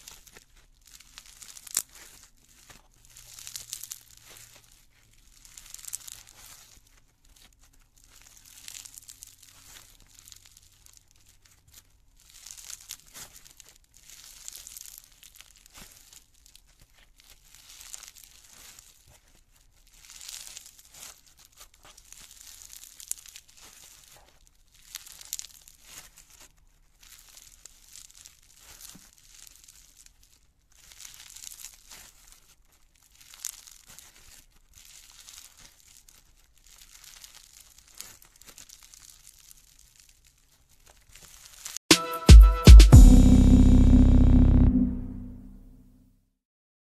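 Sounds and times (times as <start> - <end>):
foam slime crackling and popping: 0.0 - 41.8.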